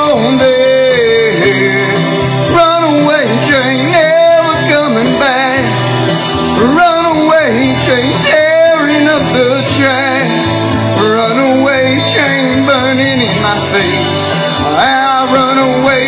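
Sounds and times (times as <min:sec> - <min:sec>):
bending lead guitar melody: 0:00.0 - 0:16.0
guitar accompaniment: 0:00.0 - 0:16.0.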